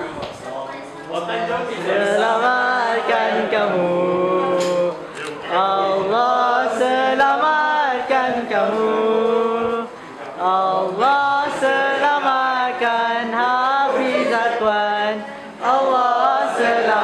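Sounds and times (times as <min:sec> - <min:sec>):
male voices singing a chant: 0:01.7 - 0:17.0.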